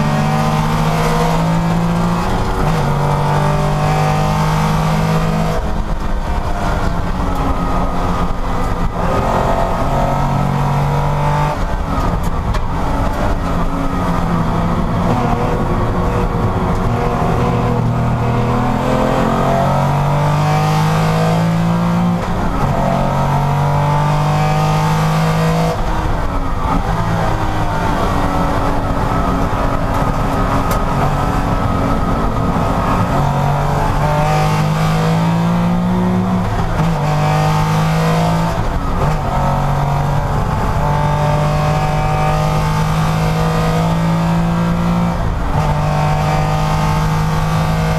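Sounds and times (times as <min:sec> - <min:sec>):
race car engine accelerating: 0:00.0 - 0:47.9.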